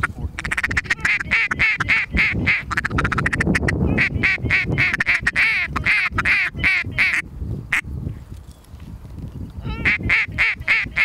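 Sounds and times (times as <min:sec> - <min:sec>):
duck call chattering: 0:00.0 - 0:07.8, 0:09.7 - 0:11.0
duck call quacks: 0:00.0 - 0:07.8, 0:09.7 - 0:11.0.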